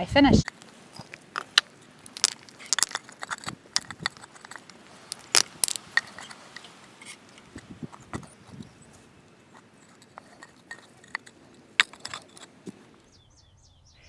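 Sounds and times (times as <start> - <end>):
pebbles clicking together: 0.4 - 12.8.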